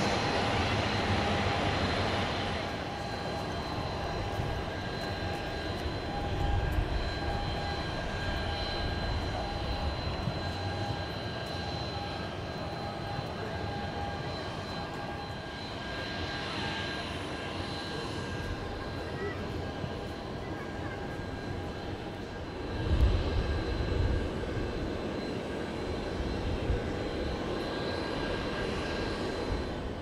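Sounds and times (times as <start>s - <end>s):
jet airliner roaring on climb: 0.0s - 30.0s.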